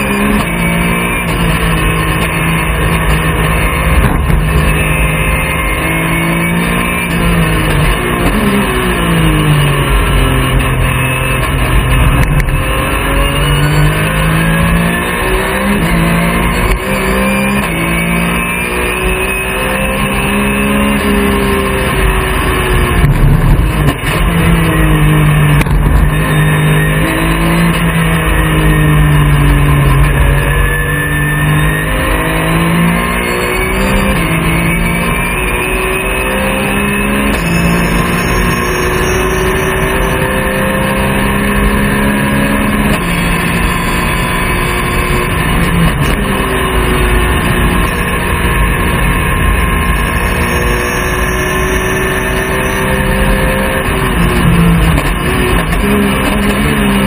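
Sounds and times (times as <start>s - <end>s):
race car engine changing gear: 0.0s - 57.0s.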